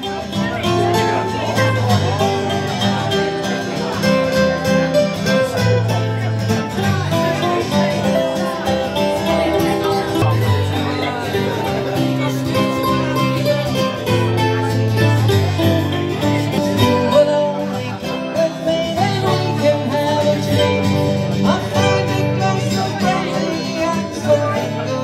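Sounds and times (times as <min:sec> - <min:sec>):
plucked mandolin: 0:00.0 - 0:25.0
strummed acoustic guitar: 0:00.0 - 0:25.0.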